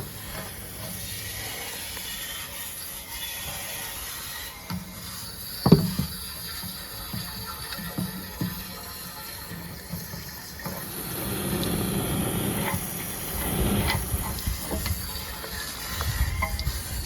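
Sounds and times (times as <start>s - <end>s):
water spraying inside a tank: 0.0s - 17.0s.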